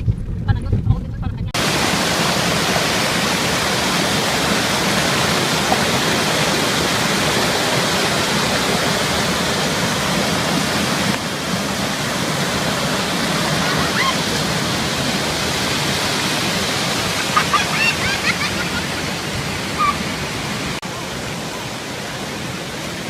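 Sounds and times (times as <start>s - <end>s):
waterfall rushing: 1.6s - 23.0s.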